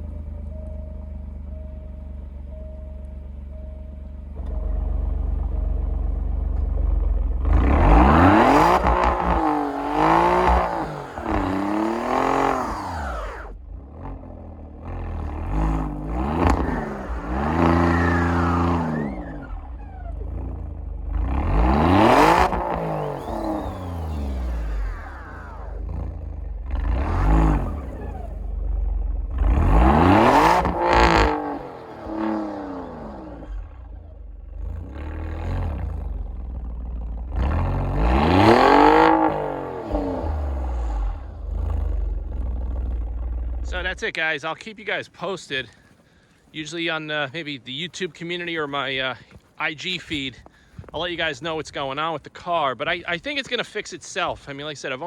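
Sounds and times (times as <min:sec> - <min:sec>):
car engine idling and revving: 0:00.0 - 0:47.2.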